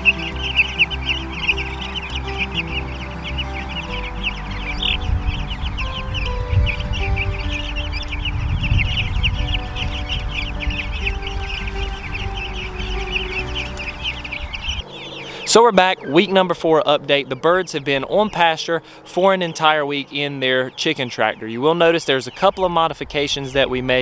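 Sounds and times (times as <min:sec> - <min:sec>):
background music: 0:00.0 - 0:21.3
chicks peeping: 0:00.0 - 0:24.0.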